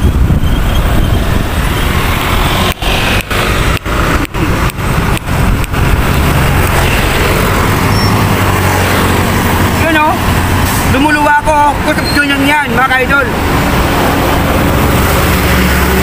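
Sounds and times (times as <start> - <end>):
road traffic passing: 0.0 - 16.0
truck engine drone: 0.0 - 16.0.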